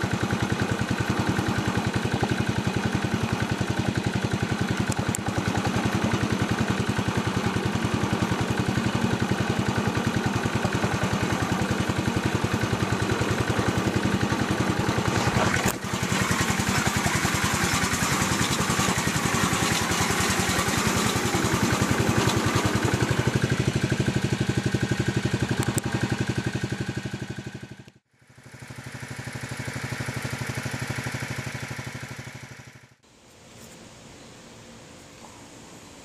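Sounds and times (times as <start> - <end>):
small locomotive engine running: 0.0 - 36.0.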